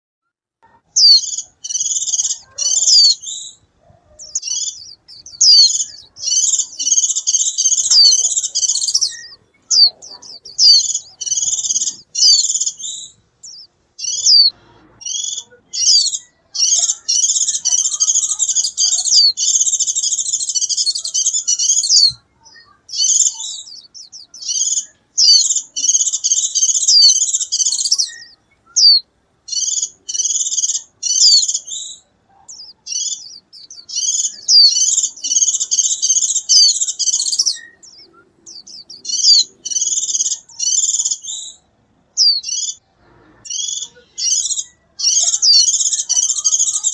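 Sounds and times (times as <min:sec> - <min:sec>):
bird twittering: 0:00.9 - 0:42.8, 0:43.5 - 0:46.9.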